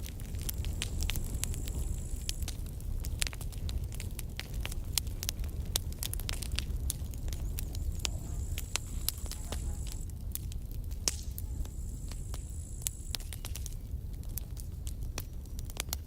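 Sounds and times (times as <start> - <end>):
low steady rumble: 0.0 - 15.2
campfire wood crackling and popping: 0.0 - 16.0.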